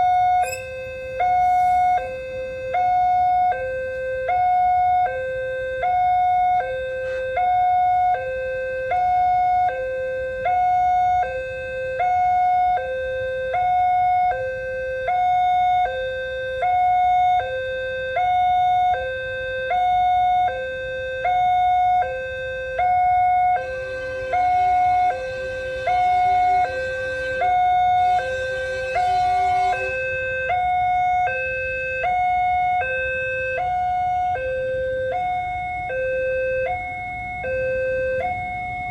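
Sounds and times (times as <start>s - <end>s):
two-tone crossing alarm: 0.0s - 38.9s.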